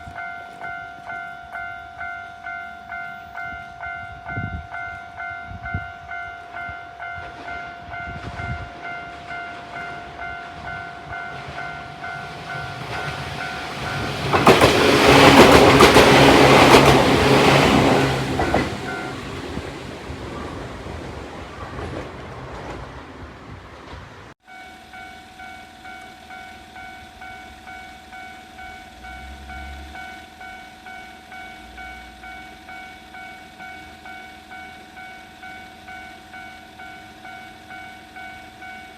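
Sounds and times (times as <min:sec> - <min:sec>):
level crossing warning bell: 0:00.0 - 0:19.8, 0:24.4 - 0:38.9
train passing: 0:00.0 - 0:38.9.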